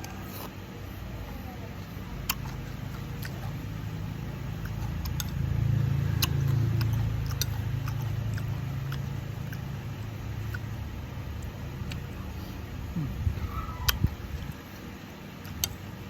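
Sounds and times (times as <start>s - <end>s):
low engine-like rumble: 0.0s - 16.0s.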